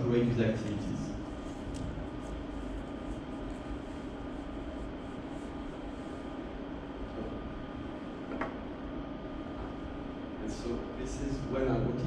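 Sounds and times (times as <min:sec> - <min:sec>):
room hum with low tone: 0:00.0 - 0:12.0.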